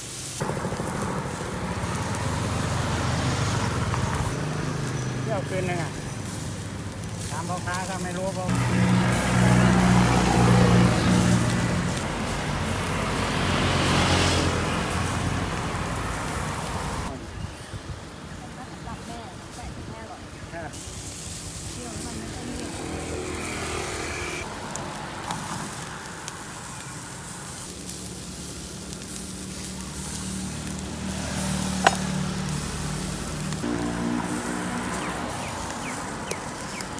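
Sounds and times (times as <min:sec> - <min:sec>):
crackling and sizzling: 0:00.0 - 0:36.9
vehicle engine hum: 0:00.4 - 0:17.2, 0:20.8 - 0:36.9
vehicle rushing by: 0:00.4 - 0:17.3, 0:21.0 - 0:36.9.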